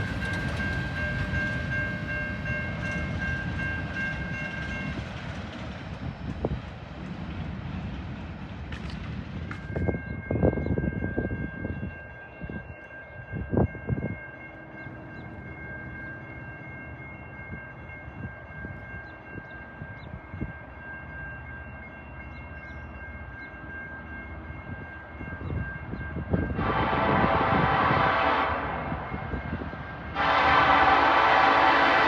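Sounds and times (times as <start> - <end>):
train rumbling with whine: 0.0 - 32.0.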